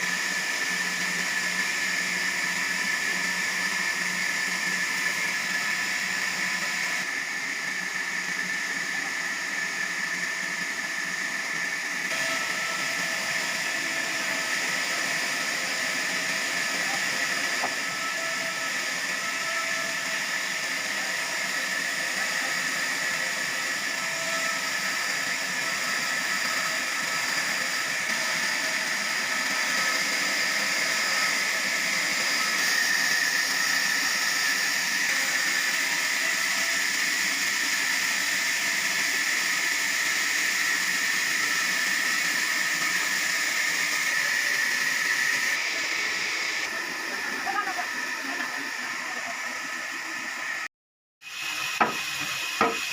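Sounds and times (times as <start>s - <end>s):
sawmill machinery running: 0.0s - 50.7s, 51.3s - 52.9s.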